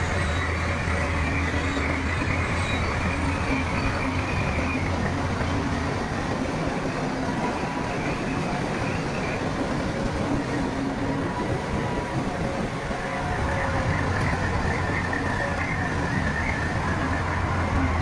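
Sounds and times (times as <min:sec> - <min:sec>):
steel tracks clattering: 0:00.0 - 0:18.0.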